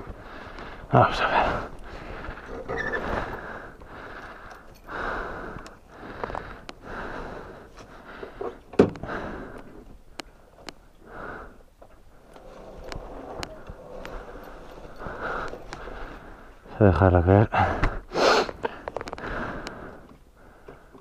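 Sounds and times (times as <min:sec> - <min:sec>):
person breathing heavily: 0:00.0 - 0:21.0.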